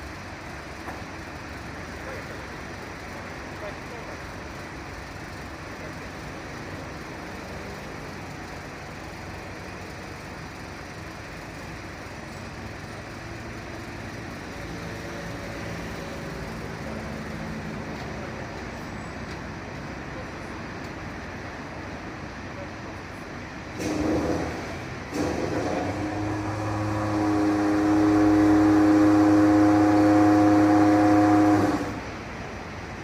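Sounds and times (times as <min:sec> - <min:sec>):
traffic noise: 0:00.0 - 0:33.0
vehicle engine hum: 0:00.0 - 0:33.0.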